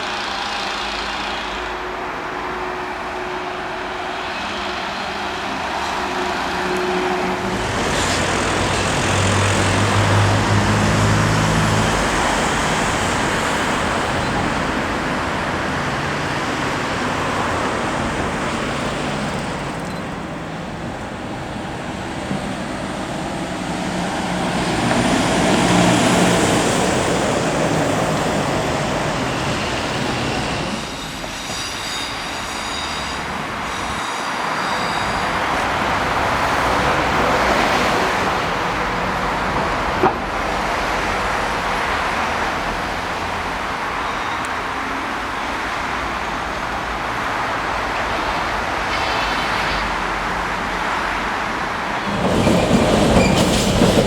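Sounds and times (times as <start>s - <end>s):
train wheels on track: 0.0s - 54.0s.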